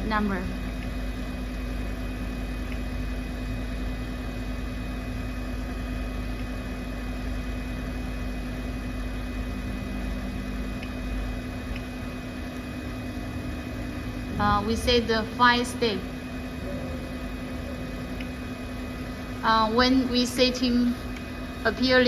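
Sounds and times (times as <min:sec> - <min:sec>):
electrical machine hum: 0:00.0 - 0:22.0.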